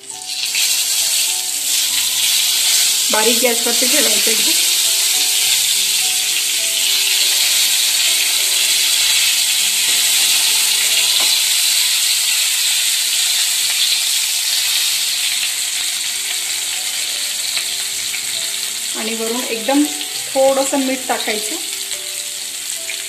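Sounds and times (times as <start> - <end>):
hot oil sizzling: 0.0 - 23.0.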